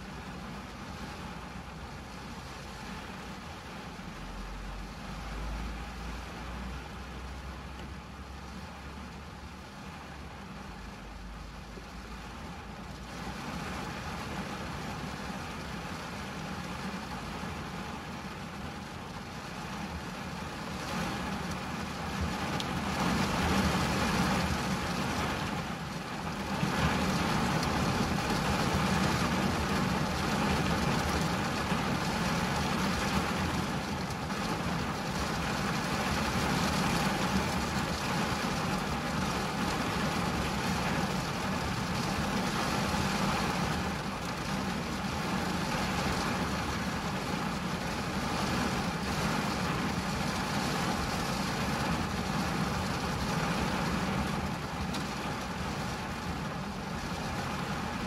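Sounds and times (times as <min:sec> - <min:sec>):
rain on a car: 0:00.0 - 0:58.0.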